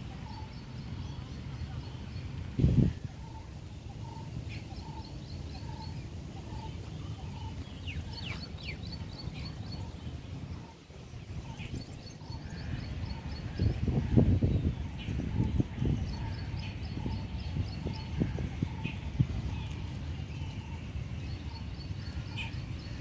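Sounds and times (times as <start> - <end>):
rapid high bird twittering: 0.0 - 23.0
steady low rumble: 0.0 - 23.0.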